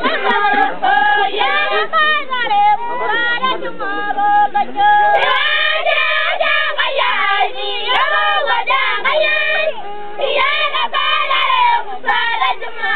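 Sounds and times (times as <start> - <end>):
women singing together: 0.0 - 12.9.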